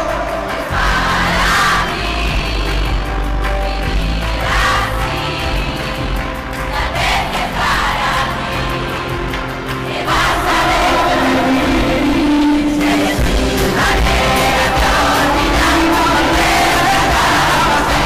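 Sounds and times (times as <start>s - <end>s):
music with sung vocals: 0.0s - 18.0s.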